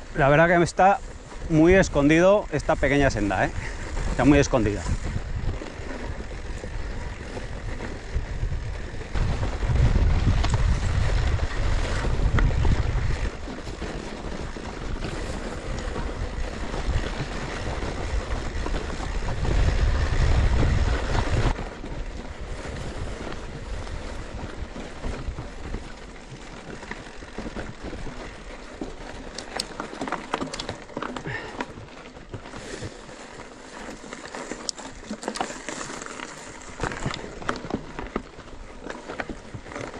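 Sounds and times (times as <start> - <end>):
wind buffeting microphone: 0.0 - 35.1
bike moving along trail: 0.0 - 39.9
sharp ticks and rustles: 0.0 - 39.9.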